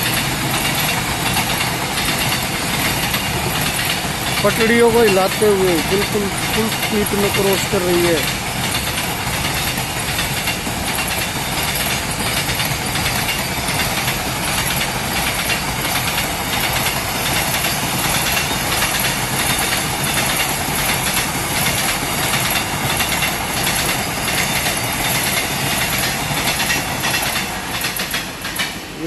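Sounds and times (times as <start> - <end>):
freight train wheels rumbling on rails: 0.0 - 29.0.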